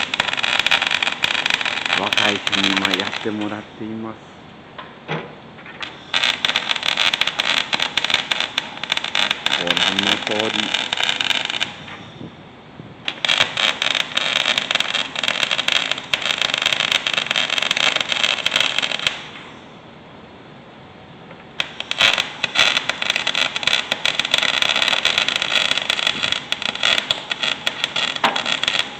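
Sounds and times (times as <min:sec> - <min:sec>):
welding arc crackling: 0:00.0 - 0:04.0, 0:05.7 - 0:11.9, 0:13.0 - 0:19.4, 0:21.3 - 0:28.9.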